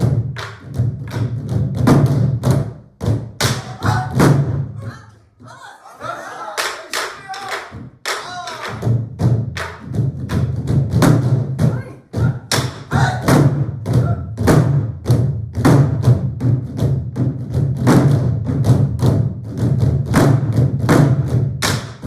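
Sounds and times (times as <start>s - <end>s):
barrel drums ensemble: 0.0s - 22.0s.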